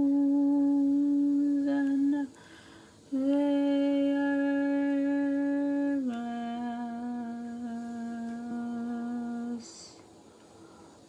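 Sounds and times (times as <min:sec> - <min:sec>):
woman humming: 0:00.0 - 0:02.4, 0:03.1 - 0:10.0.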